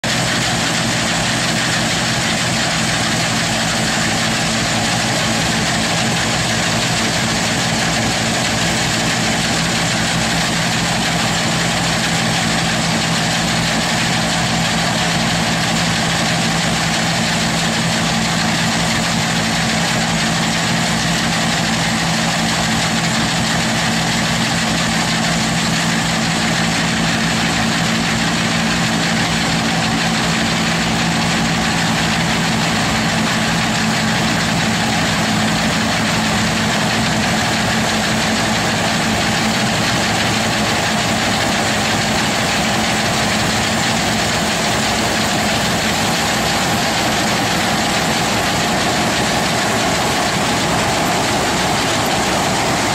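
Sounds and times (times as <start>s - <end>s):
combine harvester engine hum: 0.0s - 52.9s.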